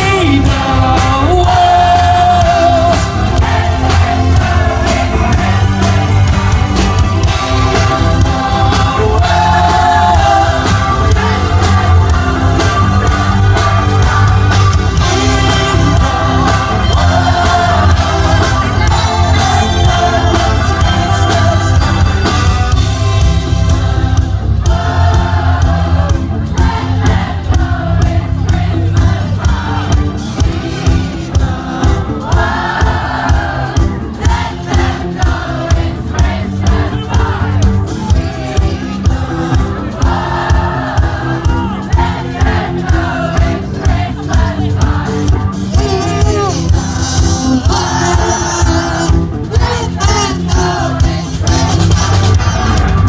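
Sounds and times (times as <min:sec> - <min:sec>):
heavy bass line: 0:00.0 - 0:53.0
music with singing: 0:00.0 - 0:53.0
steady beat: 0:00.0 - 0:53.0.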